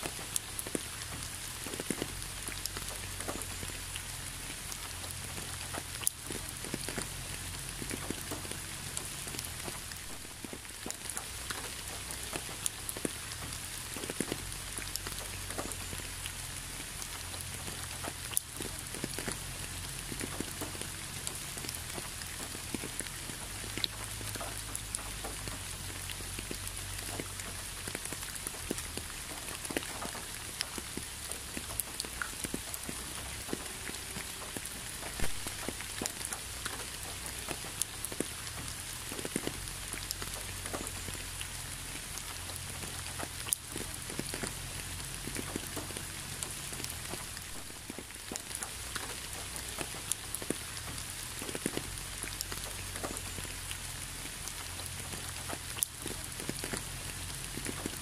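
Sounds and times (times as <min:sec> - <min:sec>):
rain hissing: 0:00.0 - 0:58.0
raindrops ticking: 0:00.0 - 0:58.0.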